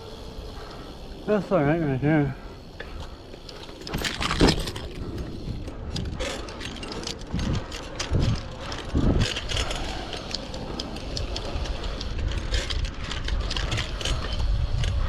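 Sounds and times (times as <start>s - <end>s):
bicycle rolling on dirt track: 0.0s - 15.0s.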